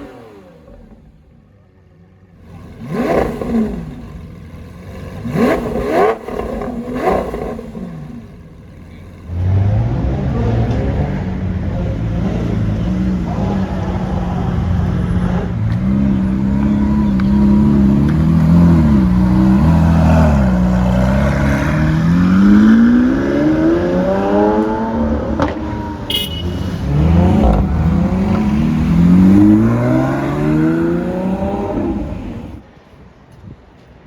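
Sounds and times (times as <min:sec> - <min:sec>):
car engine revving: 0:00.0 - 0:01.4, 0:02.4 - 0:32.6
exhaust crack: 0:02.4 - 0:11.2, 0:12.4 - 0:23.6, 0:24.5 - 0:32.6.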